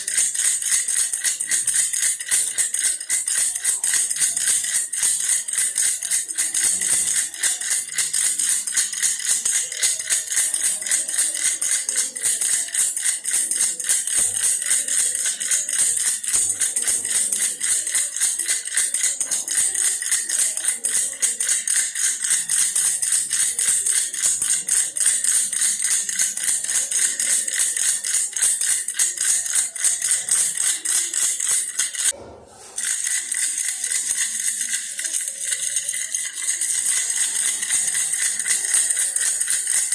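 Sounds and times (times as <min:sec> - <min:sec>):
toy rattle shaken: 0:00.0 - 0:39.9.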